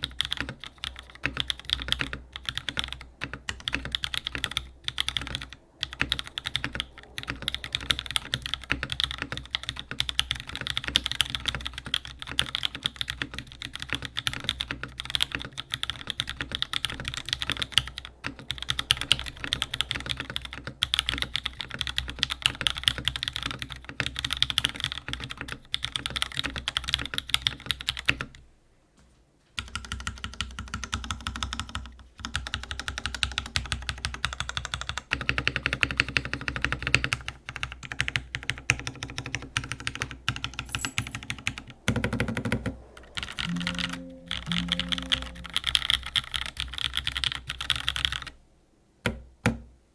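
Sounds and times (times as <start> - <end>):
fast typing on mechanical keyboard: 0.0 - 28.4, 29.6 - 48.4.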